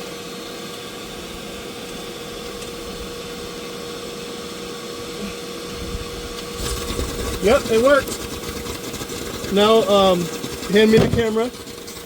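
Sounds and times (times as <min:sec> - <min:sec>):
wet dry vacuum running: 0:00.0 - 0:12.0.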